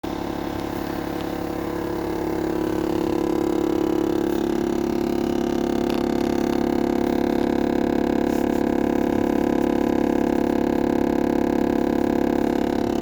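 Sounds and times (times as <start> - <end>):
rattling buzzing vibration: 0.0 - 13.0.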